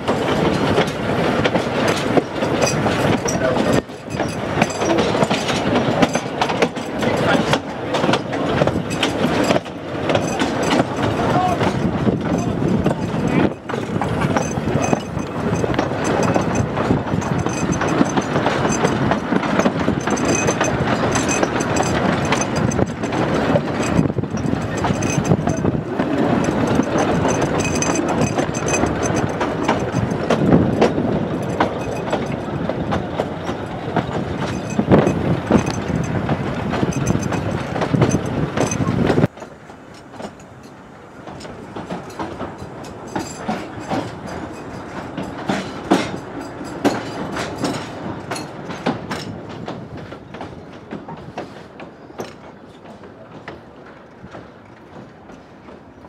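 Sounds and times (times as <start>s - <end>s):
train rumbling: 0.0s - 56.0s
wheels clattering over rail joints: 0.0s - 56.0s.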